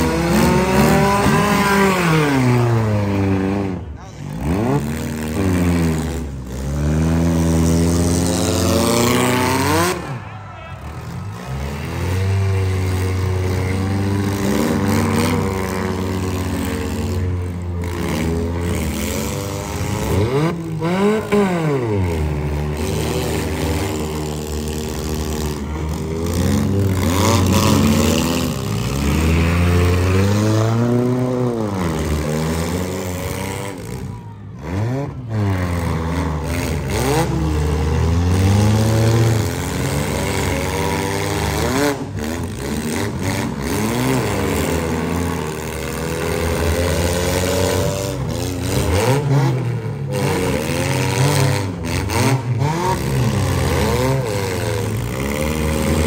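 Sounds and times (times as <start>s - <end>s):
car engines revving: 0.0s - 56.0s
cars ramming each other: 0.0s - 56.0s.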